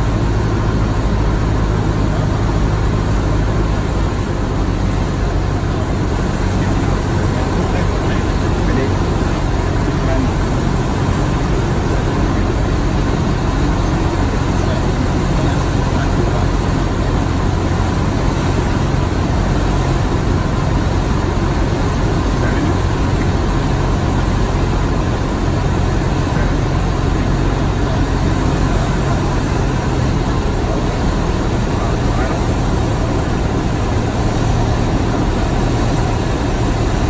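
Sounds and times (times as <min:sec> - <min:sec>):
propeller plane engine droning: 0:00.0 - 0:37.0
rushing air: 0:00.0 - 0:37.0.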